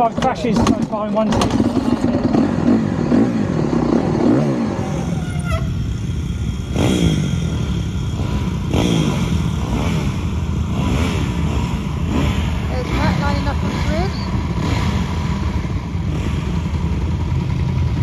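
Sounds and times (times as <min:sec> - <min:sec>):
pit bike engines revving: 0:00.0 - 0:18.0.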